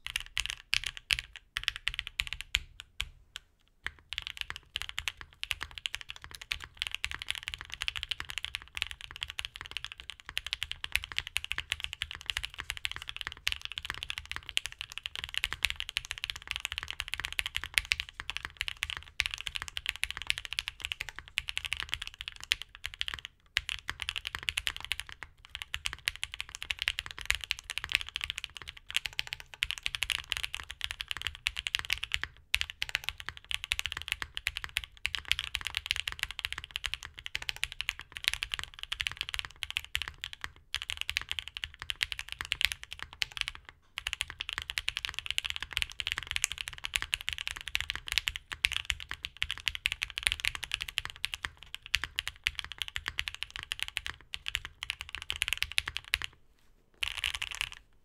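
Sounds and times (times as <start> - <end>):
typing on mechanical keyboard: 0.0 - 3.1, 3.8 - 56.4, 57.0 - 57.8.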